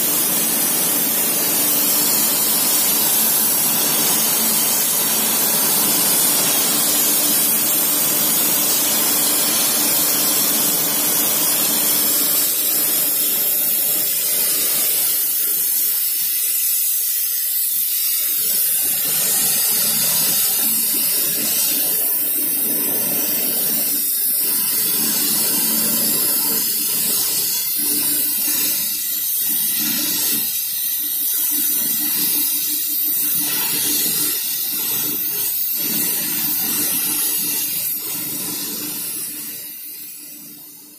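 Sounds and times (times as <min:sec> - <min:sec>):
gas torch flame hissing: 0:00.0 - 0:40.9.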